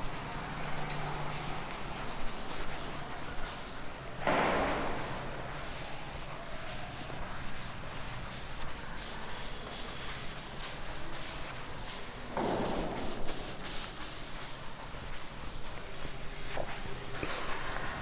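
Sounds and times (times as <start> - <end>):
chalk scratching on board: 0.0 - 18.0
dull rub on board: 0.0 - 18.0.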